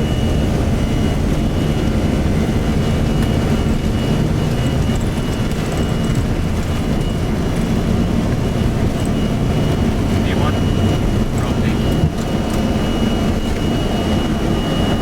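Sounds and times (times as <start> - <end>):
airplane engines and airflow rumble: 0.0 - 15.0.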